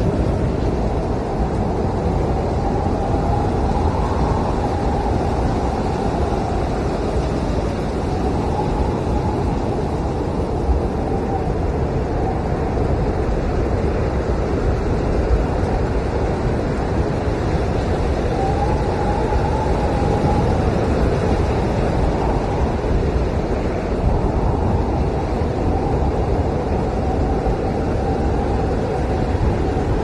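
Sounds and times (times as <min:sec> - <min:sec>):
howling blizzard wind: 0:00.0 - 0:30.0.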